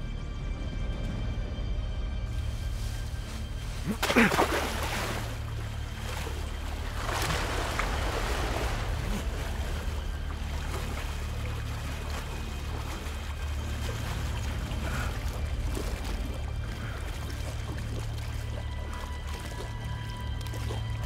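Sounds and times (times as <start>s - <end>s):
stream water splashing: 2.3s - 21.0s.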